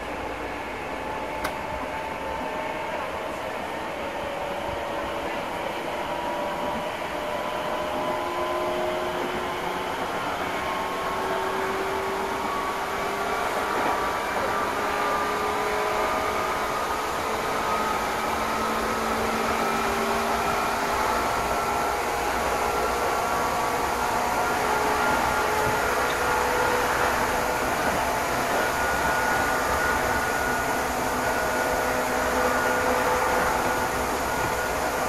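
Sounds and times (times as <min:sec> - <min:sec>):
train wheel and rail noise: 0:00.0 - 0:35.0.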